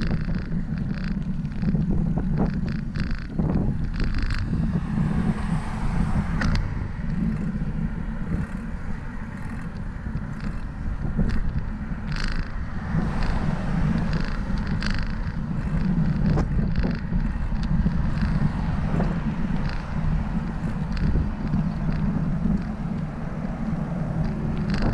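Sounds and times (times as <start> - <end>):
small clicks: 0.0 - 24.9
wind rumbling on microphone: 0.0 - 24.9.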